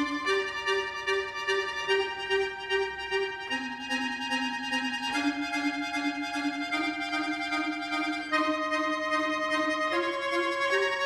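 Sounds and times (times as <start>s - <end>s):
button accordion playing chords: 0.0s - 11.0s.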